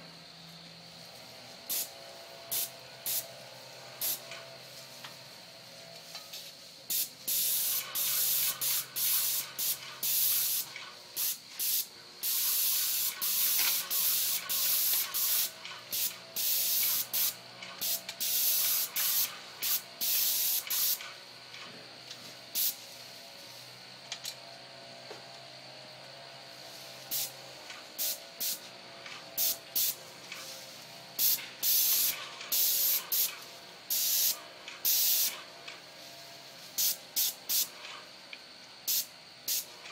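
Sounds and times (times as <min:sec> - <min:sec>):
paint sprayer hissing bursts: 0:01.7 - 0:05.3, 0:06.4 - 0:21.7, 0:22.3 - 0:23.8, 0:26.5 - 0:38.1, 0:38.8 - 0:39.9.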